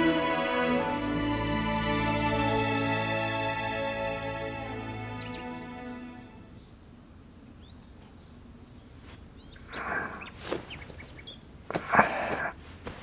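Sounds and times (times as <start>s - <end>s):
birds chirping: 2.0s - 12.6s.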